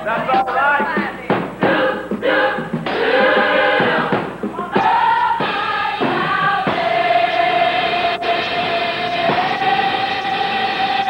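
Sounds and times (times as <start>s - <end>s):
gospel choir singing: 0.0s - 11.0s.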